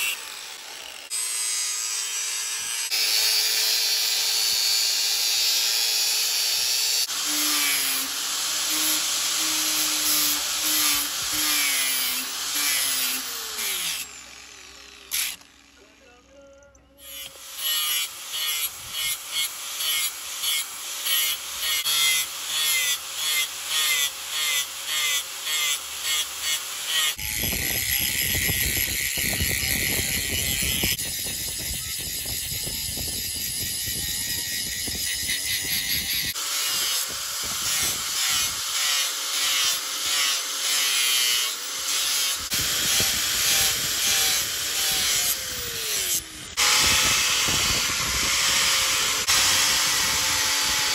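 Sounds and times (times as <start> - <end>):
angle grinder grinding steel: 0.0 - 50.9.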